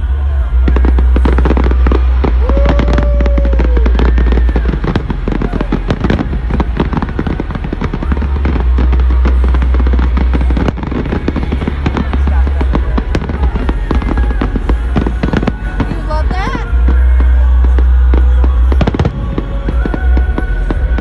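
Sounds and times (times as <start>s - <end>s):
fireworks cracking and banging: 0.0s - 21.0s.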